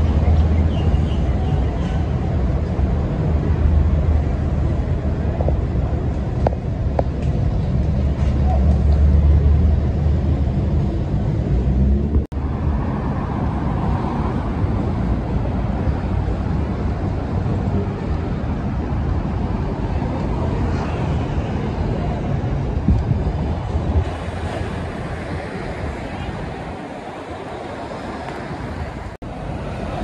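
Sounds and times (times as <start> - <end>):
heavy low rumble: 0.0 - 30.0
street traffic noise: 0.0 - 30.0.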